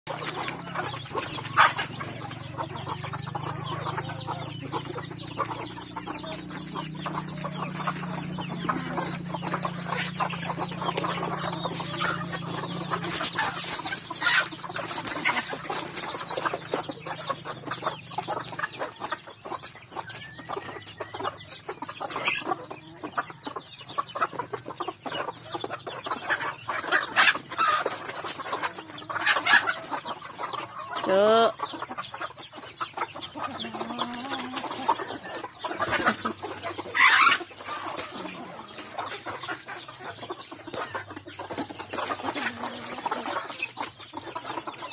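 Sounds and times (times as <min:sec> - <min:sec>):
chicks peeping: 0:00.0 - 0:44.9
hens clucking: 0:00.1 - 0:44.9.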